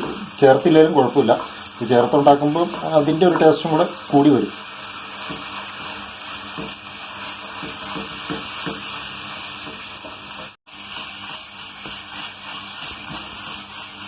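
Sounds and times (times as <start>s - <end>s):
food sizzling in a pan: 0.0s - 14.0s
stirring scrapes in a pan: 0.0s - 14.0s.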